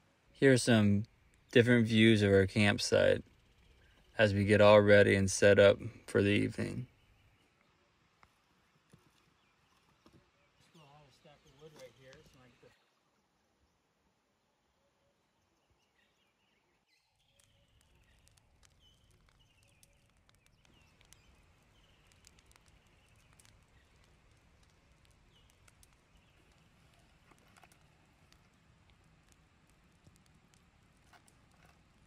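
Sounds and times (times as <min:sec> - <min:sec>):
wood fire crackling: 0:00.0 - 0:12.6, 0:16.9 - 0:32.0.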